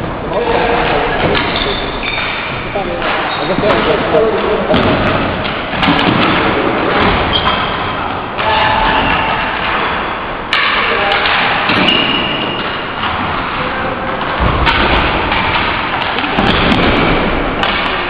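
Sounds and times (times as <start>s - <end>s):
hockey sticks and ball thudding: 0.8s - 18.0s.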